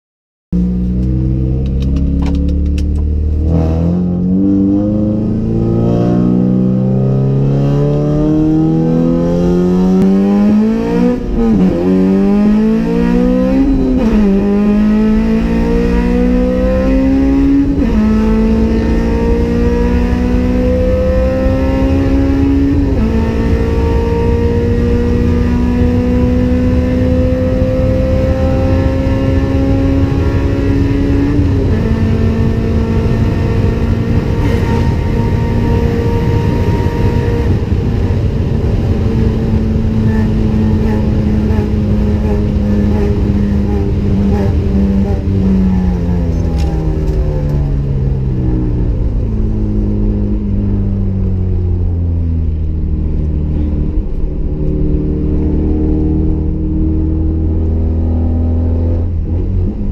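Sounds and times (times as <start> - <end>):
road noise: 0.5 - 59.9
car engine accelerating: 0.6 - 59.9.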